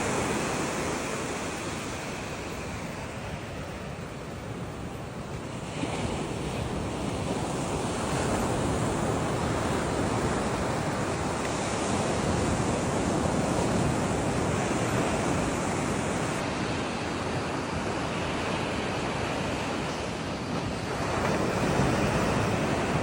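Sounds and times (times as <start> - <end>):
surf on a beach: 0.0 - 23.0
wind buffeting microphone: 0.0 - 23.0.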